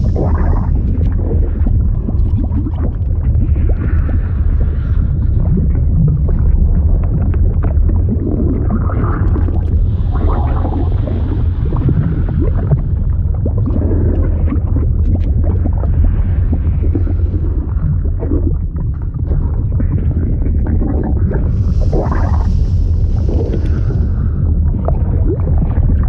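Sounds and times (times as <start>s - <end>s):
liquid rumbling and gurgling: 0.0s - 26.0s.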